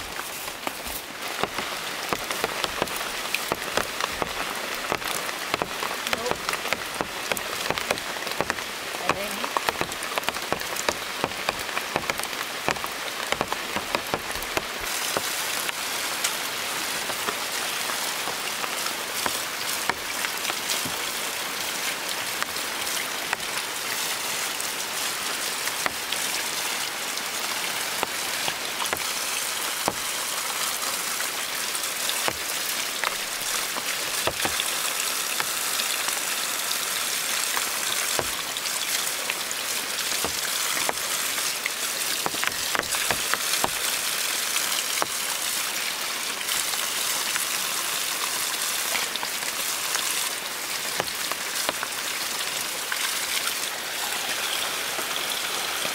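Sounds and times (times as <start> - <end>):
rain pattering on foliage: 0.0 - 55.9.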